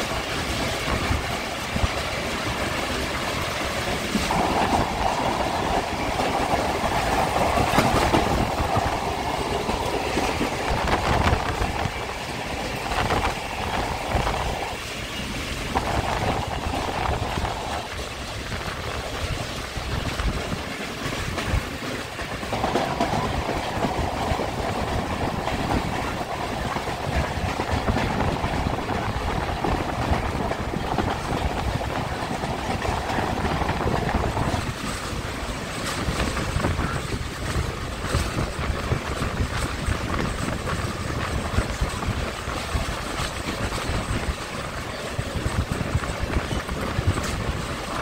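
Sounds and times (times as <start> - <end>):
train rumbling and rattling on rails: 0.0 - 48.0.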